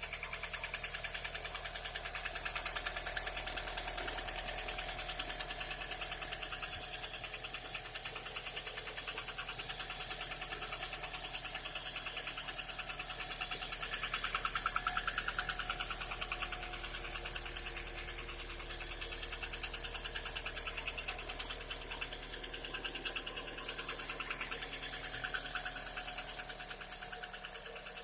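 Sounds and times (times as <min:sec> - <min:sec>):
engine knocking: 0:00.0 - 0:28.0.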